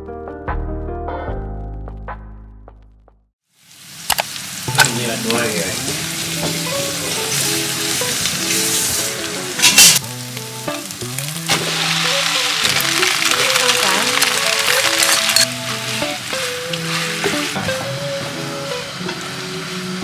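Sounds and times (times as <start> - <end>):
background music: 0.0 - 3.0, 4.7 - 20.0
onions sizzling in hot oil: 3.4 - 20.0.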